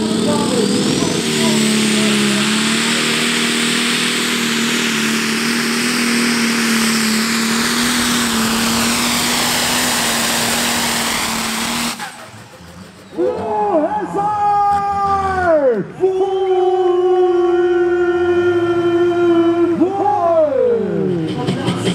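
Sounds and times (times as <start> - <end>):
loud diesel engine running: 0.0 - 14.3, 17.3 - 21.9.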